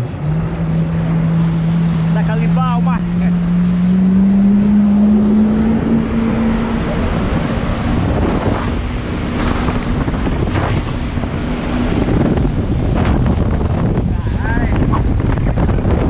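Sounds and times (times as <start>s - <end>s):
jet ski engine droning: 0.0s - 16.0s
rushing water: 0.0s - 16.0s
wind noise on microphone: 0.0s - 16.0s.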